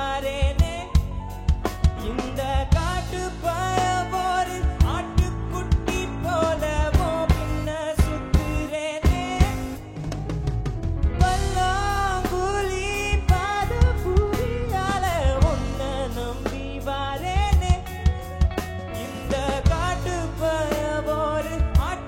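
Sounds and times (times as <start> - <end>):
person singing: 0.0 - 10.4, 11.2 - 22.0
band with drum kit: 0.0 - 22.0.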